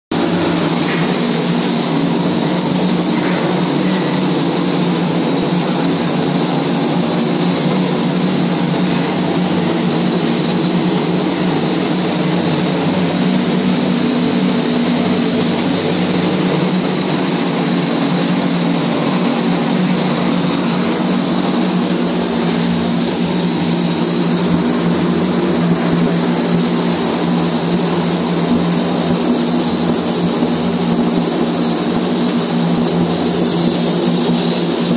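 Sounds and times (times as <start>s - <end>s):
constant high whine: 0.1s - 34.9s
industrial roar: 0.1s - 34.9s.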